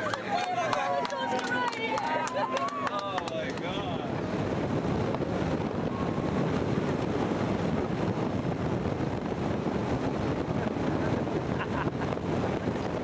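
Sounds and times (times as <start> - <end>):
speedboat engine and water rush: 0.0 - 13.0
wind buffeting microphone: 0.0 - 13.0.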